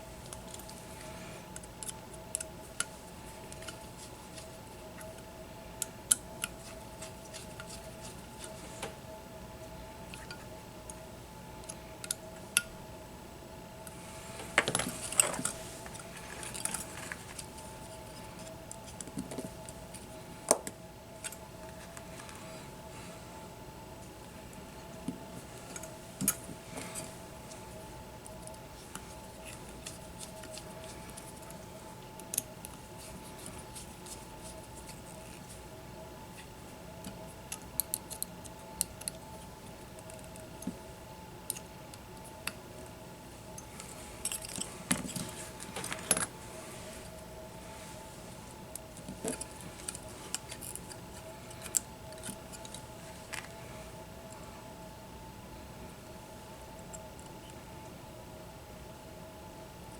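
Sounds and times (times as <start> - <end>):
faint two-tone hum: 0.0 - 59.9.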